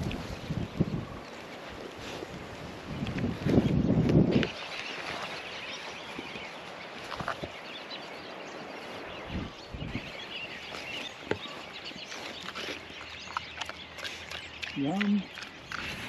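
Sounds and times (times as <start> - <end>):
outdoor background noise: 0.0 - 16.0
pigs chewing pumpkins: 0.0 - 16.0.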